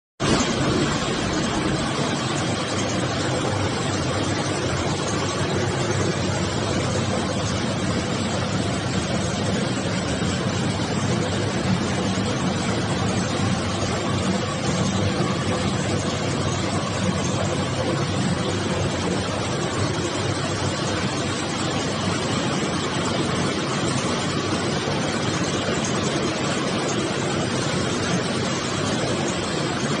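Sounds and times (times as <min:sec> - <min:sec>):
machinery running: 0:00.2 - 0:30.0.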